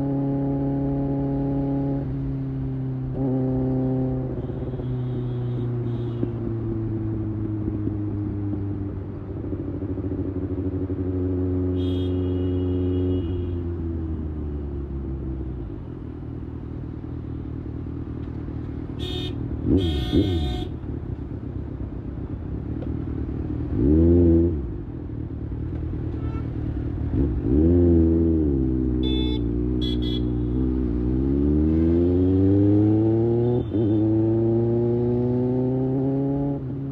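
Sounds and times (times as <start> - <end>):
motorcycle engine cruising and revving: 0.0 - 36.9.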